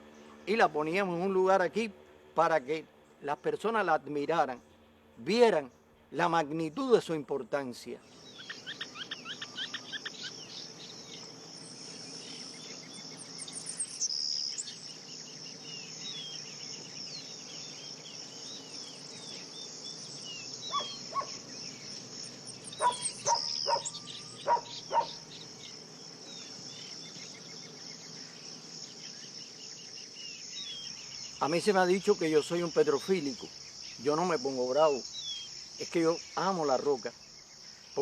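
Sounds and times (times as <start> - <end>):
small birds chirping: 0.0 - 38.0
high-pitched insect chorus: 5.2 - 38.0.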